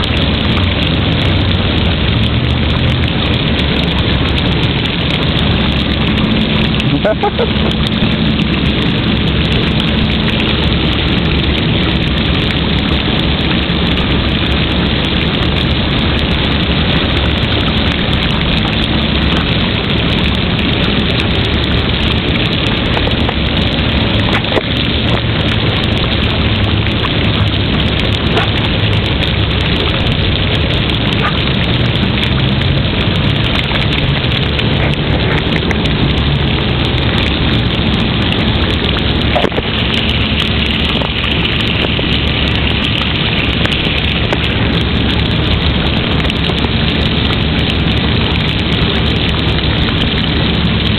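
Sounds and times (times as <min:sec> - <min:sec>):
water sprinklers hissing on pavement: 0:00.0 - 0:50.9.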